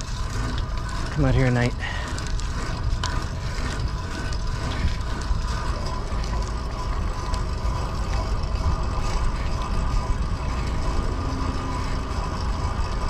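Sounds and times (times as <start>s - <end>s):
bicycle tyres and chain rolling: 0.0s - 13.0s
wind buffeting microphone: 0.0s - 13.0s.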